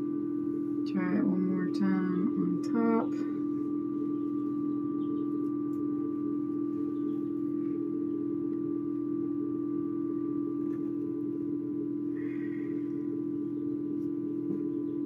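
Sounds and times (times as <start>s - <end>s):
incubator fan motor hum: 0.0s - 15.0s.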